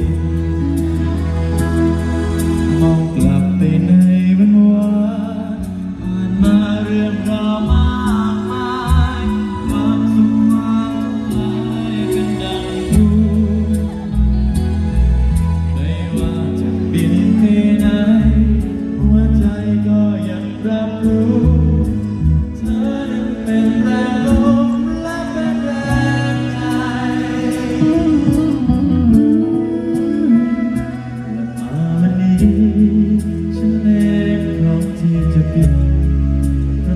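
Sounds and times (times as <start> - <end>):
backing music with beat: 0.0 - 36.9
man singing pop ballad: 0.0 - 36.9.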